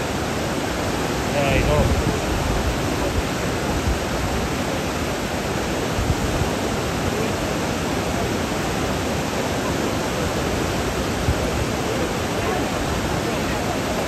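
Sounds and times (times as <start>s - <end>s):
white water rushing over weir: 0.0s - 14.0s.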